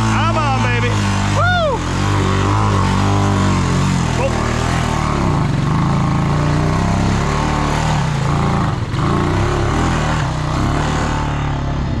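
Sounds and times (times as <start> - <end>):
quad bike engine under load: 0.0 - 12.0
tires through mud and water: 0.0 - 12.0.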